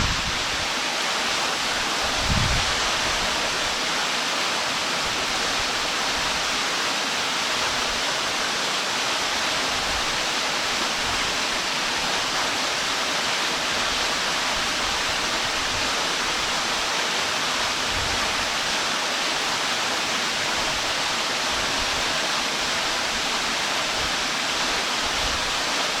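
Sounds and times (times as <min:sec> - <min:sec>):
waterfall rushing and splashing: 0:00.0 - 0:26.0.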